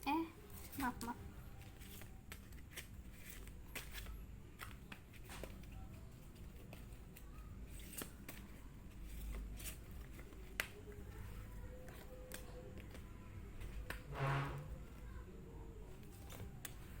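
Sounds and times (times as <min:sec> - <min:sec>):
cards clicking and tapping: 0:00.6 - 0:14.0, 0:15.9 - 0:17.0.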